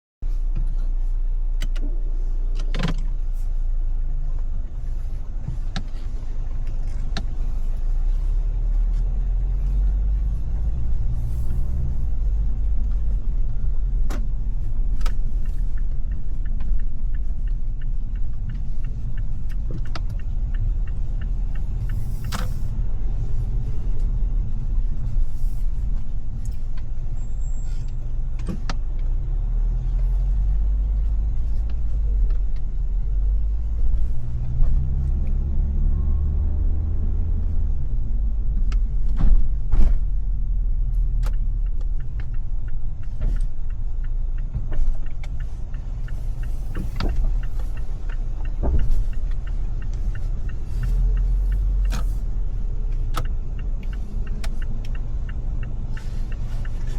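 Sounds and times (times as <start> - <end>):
car engine and road noise: 0.2 - 56.9.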